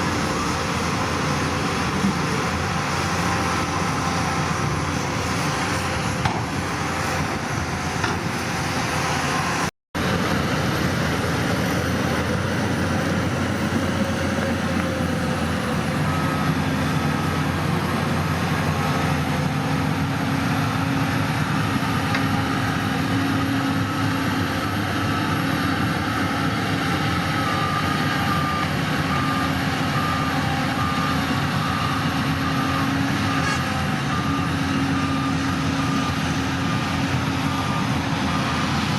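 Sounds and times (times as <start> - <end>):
reversing alarm beeping: 0.0 - 8.2, 13.4 - 19.1, 19.9 - 38.9
diesel earthmoving machinery running: 0.0 - 38.9.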